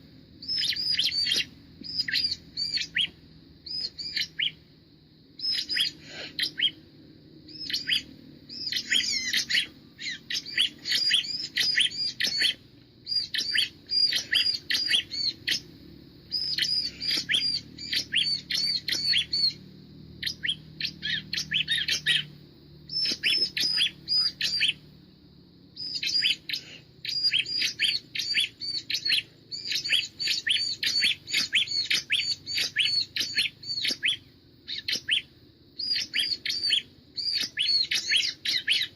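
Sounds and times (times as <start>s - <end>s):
bird song rapid high chirping: 0.4s - 4.6s, 5.4s - 25.0s, 25.7s - 38.9s.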